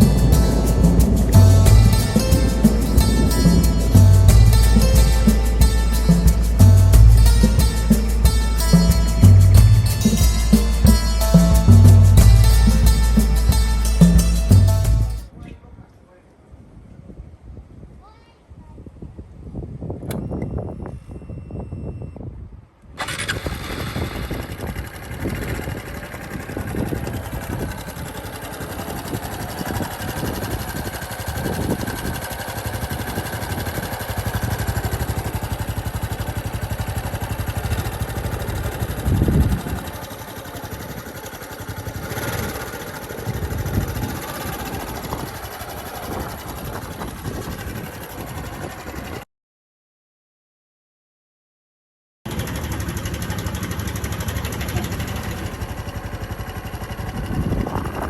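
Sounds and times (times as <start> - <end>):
motorcycle engine running: 0.0 - 15.2, 23.0 - 49.2, 52.3 - 58.0.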